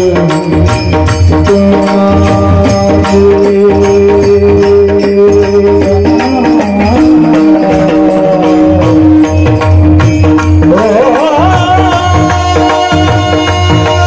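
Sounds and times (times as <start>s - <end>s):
gliding wavering melody: 0.0s - 12.9s
jingling percussion: 0.0s - 14.0s.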